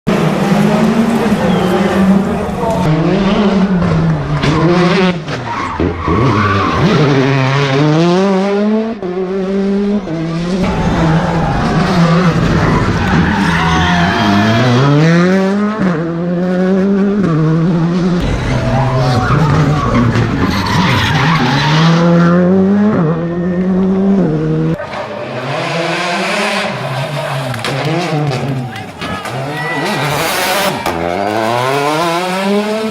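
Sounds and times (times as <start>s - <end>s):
rally car engine revving: 0.1s - 32.9s.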